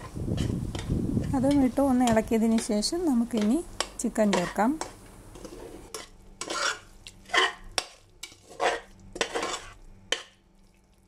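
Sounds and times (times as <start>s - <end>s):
metal spoon scraping a pot: 0.0s - 2.7s, 3.3s - 10.3s.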